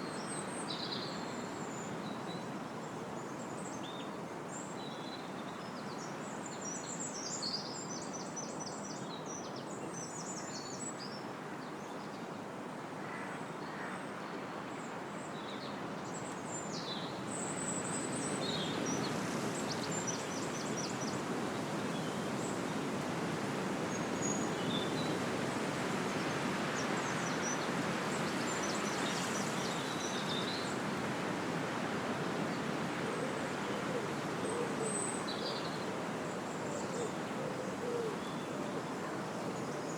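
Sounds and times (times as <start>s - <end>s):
wind through trees: 0.0s - 39.9s.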